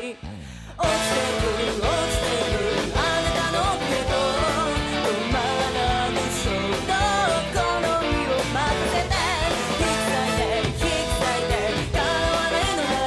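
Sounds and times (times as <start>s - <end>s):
pop-rock song with woman singing: 0.0s - 13.0s.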